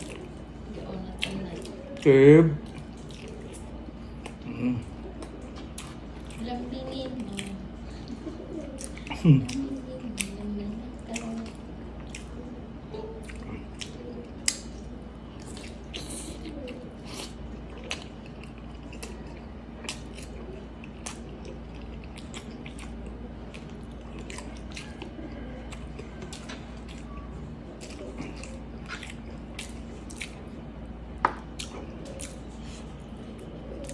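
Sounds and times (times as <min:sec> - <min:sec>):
low steady hum: 0:00.0 - 0:33.9
person chewing food: 0:00.0 - 0:33.9.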